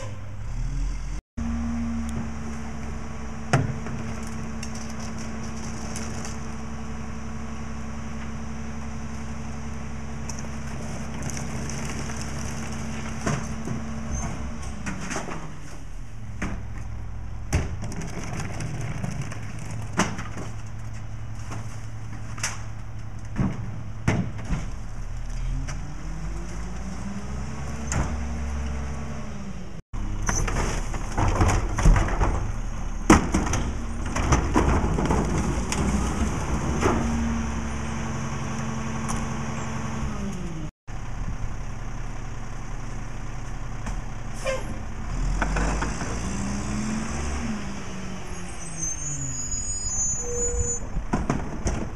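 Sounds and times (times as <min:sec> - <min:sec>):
diesel engine idling and revving: 0:00.0 - 0:51.9.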